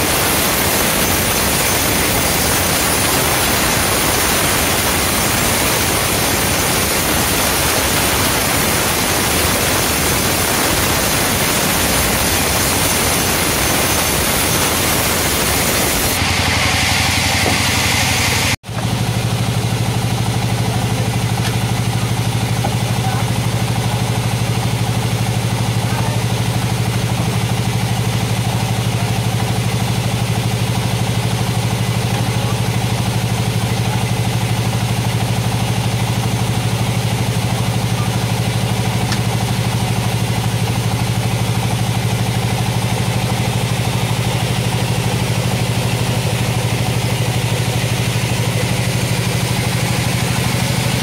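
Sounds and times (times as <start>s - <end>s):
engine idling with low chug: 0.0s - 51.0s.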